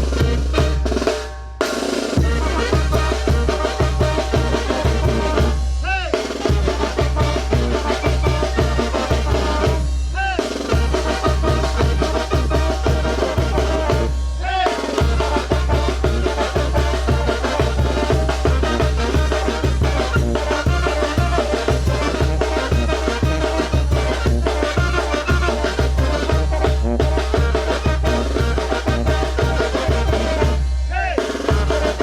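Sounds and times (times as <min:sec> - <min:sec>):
bass drum and snare beat: 0:00.0 - 0:32.0
wind band playing: 0:00.0 - 0:32.0.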